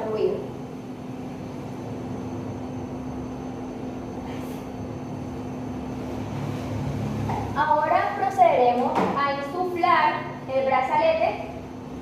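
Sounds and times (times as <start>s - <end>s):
low background hum with tone: 0.0s - 12.0s.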